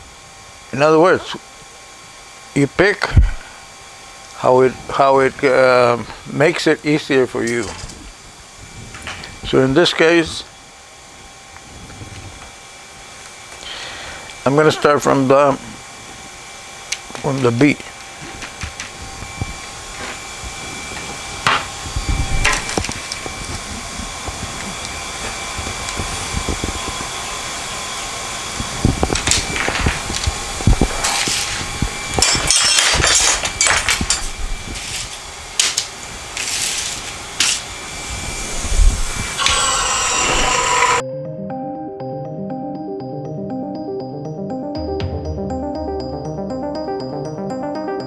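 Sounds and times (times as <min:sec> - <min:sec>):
steady hiss and hum: 0:00.0 - 0:41.0.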